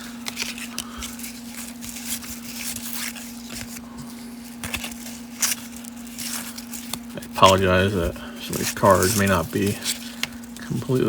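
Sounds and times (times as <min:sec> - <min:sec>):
cards rustling and slapping: 0:00.0 - 0:11.0
steady low hum: 0:00.0 - 0:11.0.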